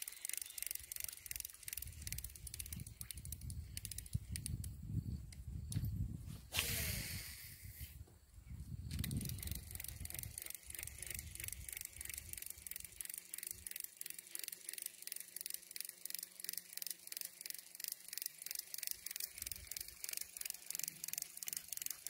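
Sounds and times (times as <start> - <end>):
fishing reel clicking: 0.0 - 5.8, 8.9 - 22.0.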